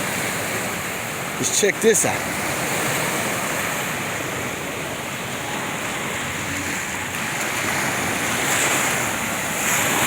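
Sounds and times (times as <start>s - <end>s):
ocean waves breaking: 0.0s - 10.0s.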